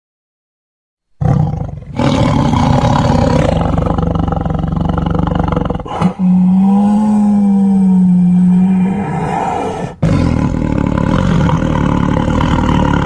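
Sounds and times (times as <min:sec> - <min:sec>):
tiger roaring: 0:01.2 - 0:13.0.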